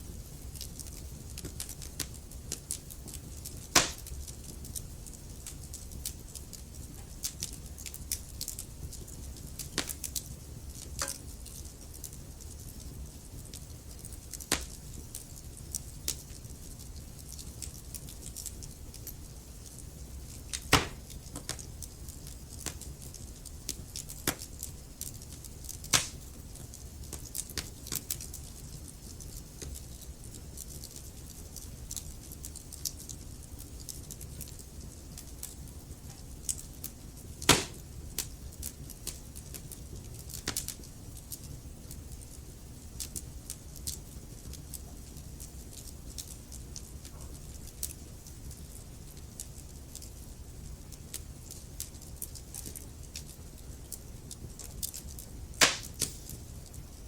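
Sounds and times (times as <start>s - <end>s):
fire pops and snaps: 0.0s - 57.0s
logs crackling in fireplace: 0.0s - 57.0s.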